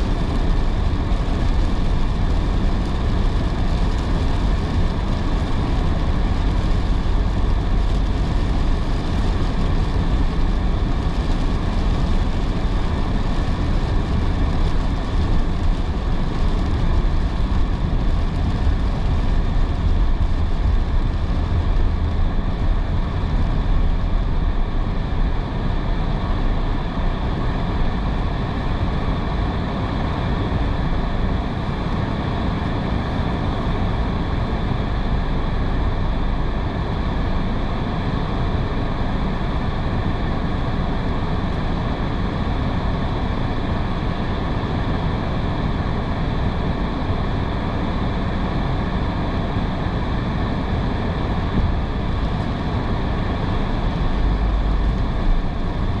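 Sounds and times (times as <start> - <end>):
car tyres hissing on wet road: 0.0 - 56.0.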